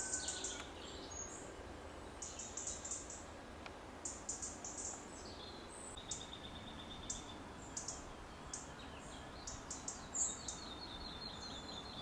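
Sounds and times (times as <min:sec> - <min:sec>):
small birds chirping and trilling: 0:00.0 - 0:03.3, 0:04.0 - 0:12.0
faint steady hiss: 0:00.0 - 0:12.0.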